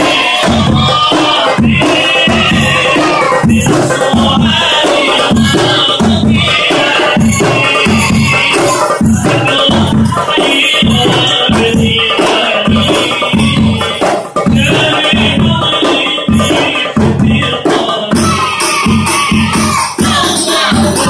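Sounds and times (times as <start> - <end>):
bass drum beaten with mallet: 0.0 - 21.0
voices singing: 0.0 - 21.0.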